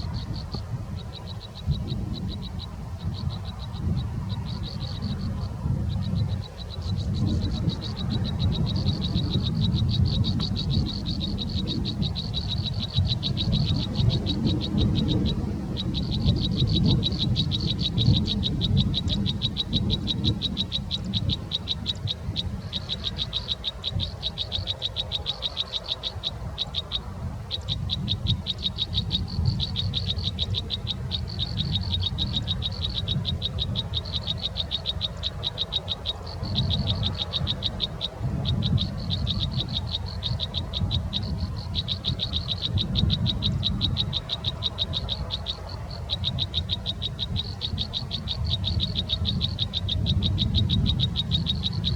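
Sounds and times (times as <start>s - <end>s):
animal pulsed trill: 0.0s - 51.9s.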